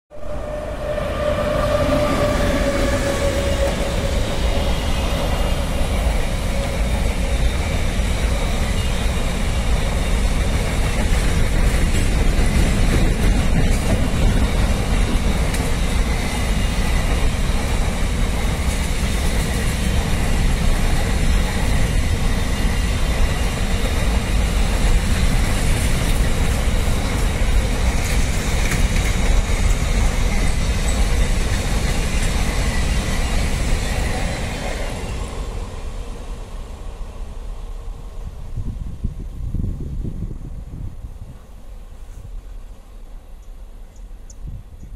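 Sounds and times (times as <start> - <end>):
electric locomotive tone: 0.1 - 38.1
freight train wagons rumbling past: 0.1 - 44.3.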